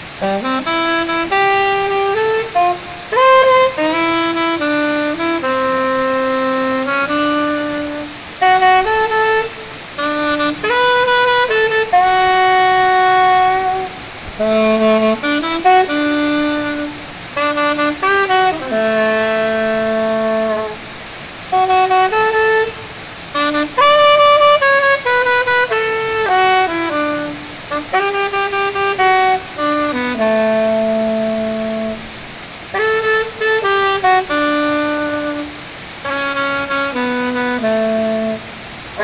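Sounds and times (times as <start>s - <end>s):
saxophone playing slow melody: 0.0s - 39.0s.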